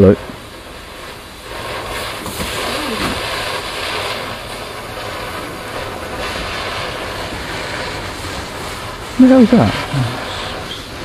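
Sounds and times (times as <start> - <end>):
firework hissing: 0.0 - 11.0.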